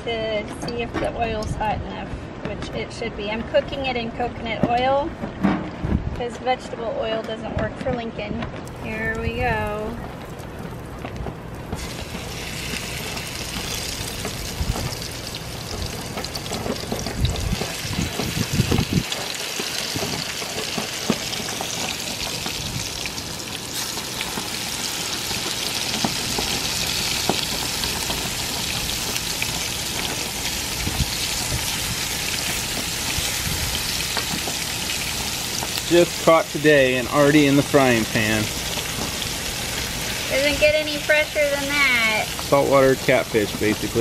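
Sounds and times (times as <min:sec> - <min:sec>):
fish sizzling in frying pan: 0:08.7 - 0:44.0.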